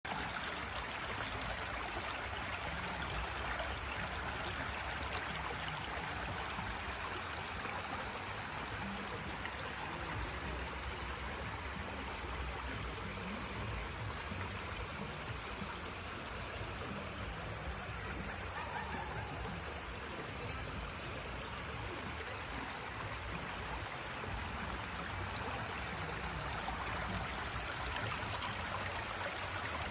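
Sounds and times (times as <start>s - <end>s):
stream water flowing: 0.0s - 29.9s.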